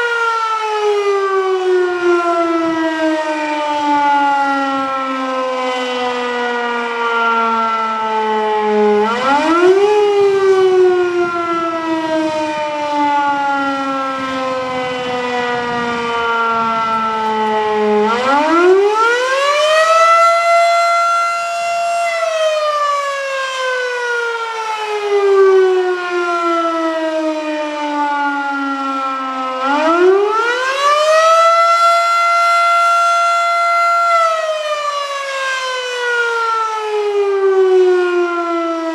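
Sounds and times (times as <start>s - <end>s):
rotating fire siren: 0.0s - 38.9s.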